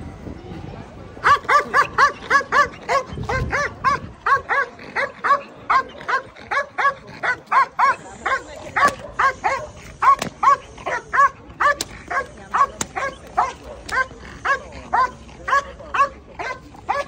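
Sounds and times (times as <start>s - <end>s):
dog barking rapidly: 1.2s - 17.0s.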